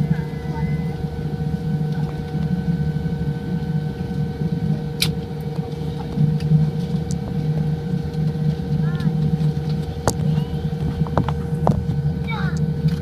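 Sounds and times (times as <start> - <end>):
airliner cabin hum: 0.0 - 13.0
constant whining tone: 0.0 - 13.0.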